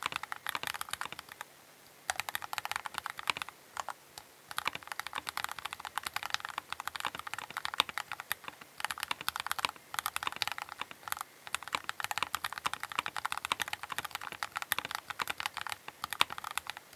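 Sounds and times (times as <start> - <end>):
mechanical keyboard typing: 0.0 - 1.4, 2.1 - 16.9.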